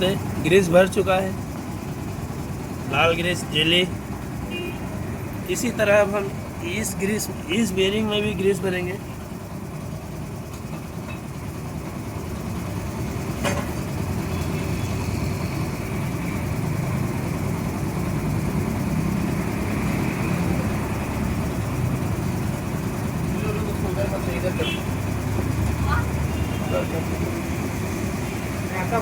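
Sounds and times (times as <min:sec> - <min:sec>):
motor vehicles rumbling: 0:00.0 - 0:29.0.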